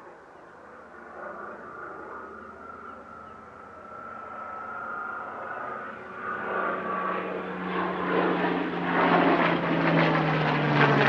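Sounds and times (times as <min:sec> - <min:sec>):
distant aircraft engine drone: 0:00.0 - 0:11.0.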